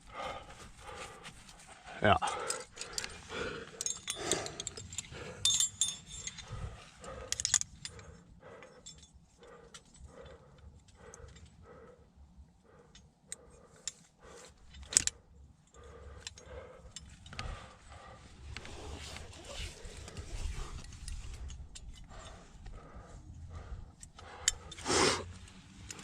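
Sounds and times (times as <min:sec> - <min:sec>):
heavy rhythmic breathing: 0:00.0 - 0:26.0
metal climbing gear jingling: 0:02.1 - 0:11.8, 0:12.8 - 0:26.0.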